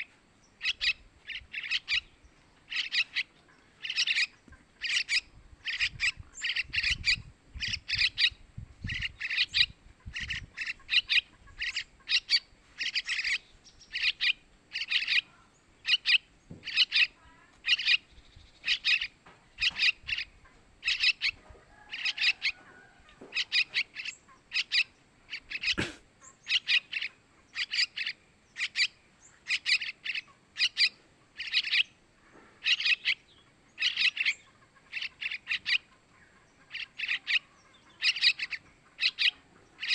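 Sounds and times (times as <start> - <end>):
bird chick calling: 0.0 - 39.9.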